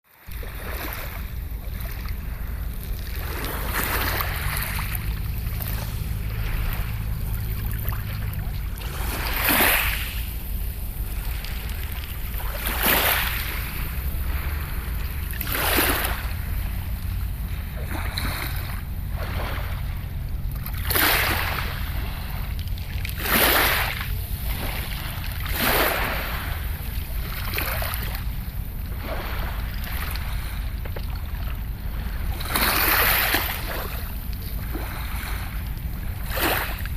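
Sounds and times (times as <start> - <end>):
sea waves breaking: 0.1 - 36.9.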